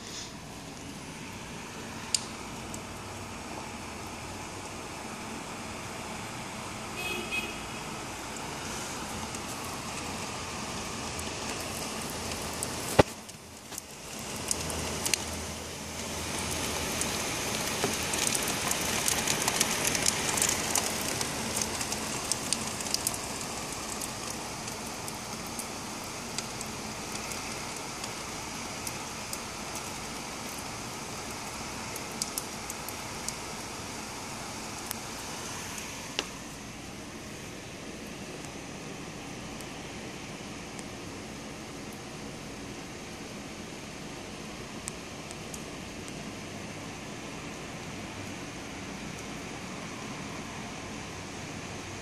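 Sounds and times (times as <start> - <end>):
rain on window glass: 0.1 - 52.0.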